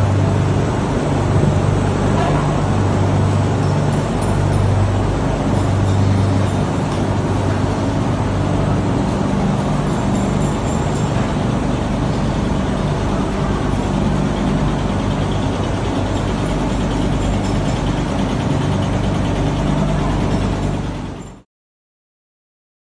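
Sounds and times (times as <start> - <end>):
machine droning: 0.0 - 21.4.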